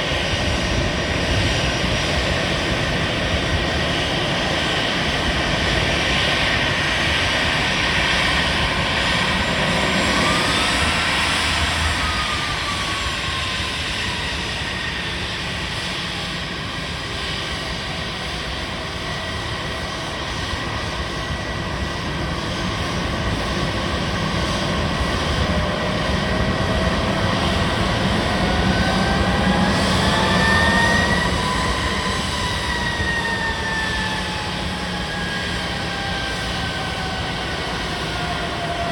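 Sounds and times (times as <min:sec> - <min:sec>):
jet engines running with whine: 0:00.0 - 0:38.9.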